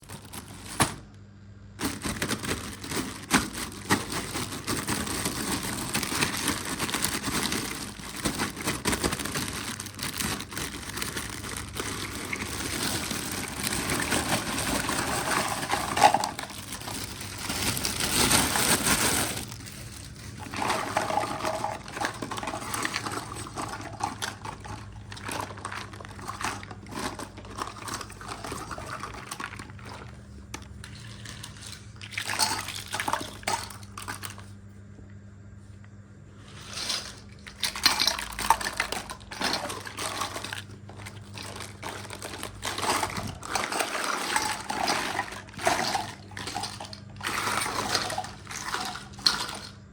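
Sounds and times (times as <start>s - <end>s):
packaging rustling and crinkling: 0.0s - 1.2s, 1.8s - 34.5s, 36.5s - 49.7s.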